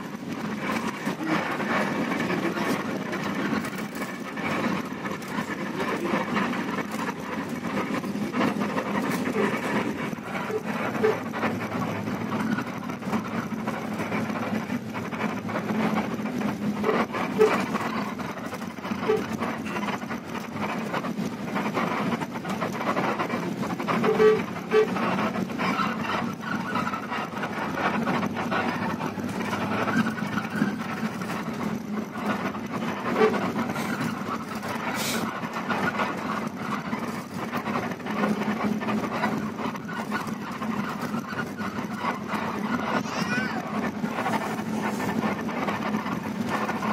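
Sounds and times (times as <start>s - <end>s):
body rattles and knocks: 0.0s - 46.9s
coach engine and road rumble: 0.0s - 46.9s.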